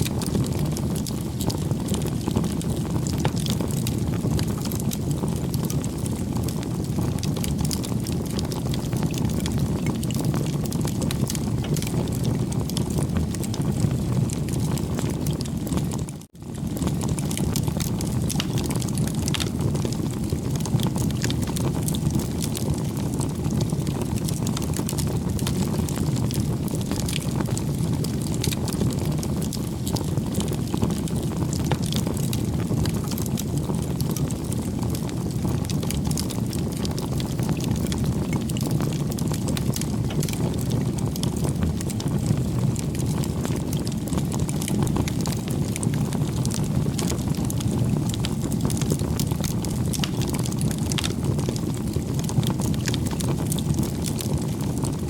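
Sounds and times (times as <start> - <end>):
bonfire flames rushing: 0.0 - 55.0
burning wood crackling and popping: 0.0 - 55.0.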